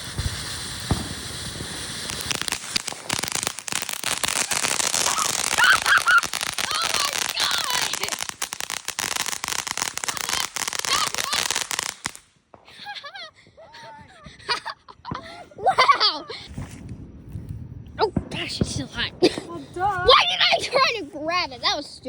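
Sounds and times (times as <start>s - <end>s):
firework fountain crackling: 0.0s - 22.0s.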